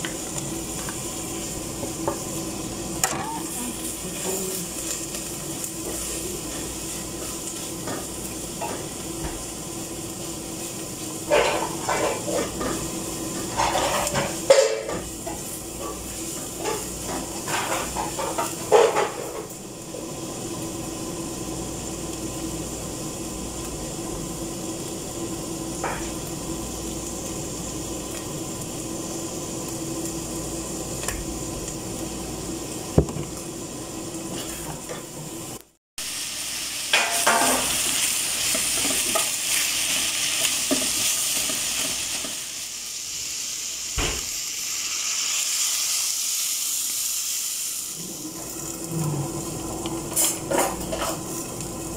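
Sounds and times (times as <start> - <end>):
food sizzling in oil: 0.0 - 51.9.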